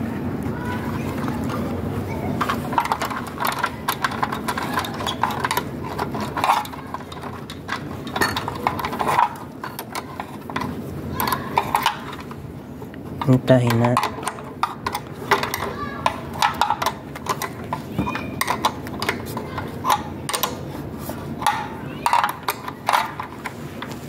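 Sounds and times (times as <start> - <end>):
metal spanner clinking on bolts: 2.4 - 12.3, 13.2 - 20.6, 21.4 - 23.5.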